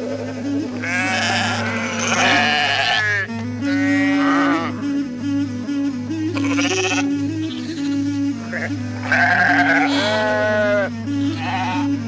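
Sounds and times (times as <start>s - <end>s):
sheep bleating: 0.0s - 4.9s, 6.3s - 12.0s
melody over low drone: 0.0s - 12.0s.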